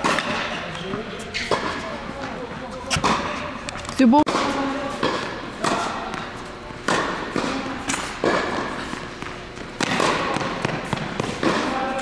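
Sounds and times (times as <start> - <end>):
tennis ball racket hits: 0.0 - 3.6, 4.2 - 12.0.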